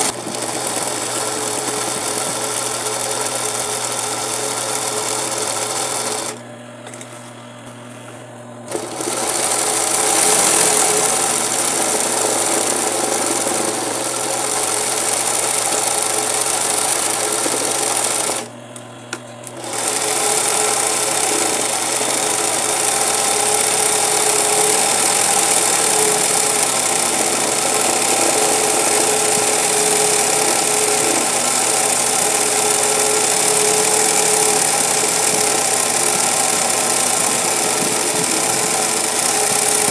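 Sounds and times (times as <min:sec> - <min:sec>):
sewing machine running fast: 0:00.0 - 0:06.4, 0:08.7 - 0:18.5, 0:19.5 - 0:39.9.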